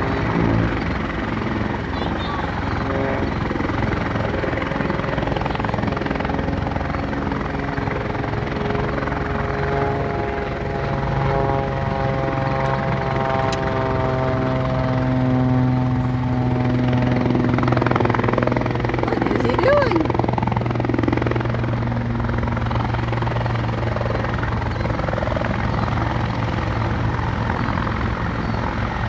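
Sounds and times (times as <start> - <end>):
helicopter engine hum: 0.0 - 29.0
helicopter rotor chop: 0.0 - 29.0.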